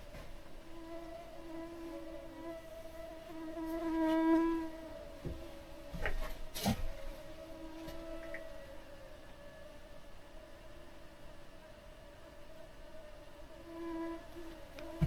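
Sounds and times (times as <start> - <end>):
flying insect buzzing: 0.5 - 10.8, 11.6 - 15.0.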